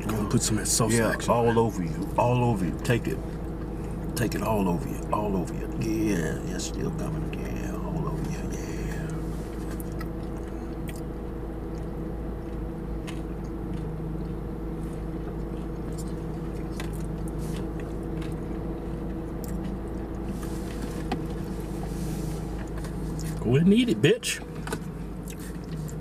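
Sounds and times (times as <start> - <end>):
people chewing food: 0.0 - 23.6, 24.4 - 26.0
low car cabin hum: 0.0 - 26.0.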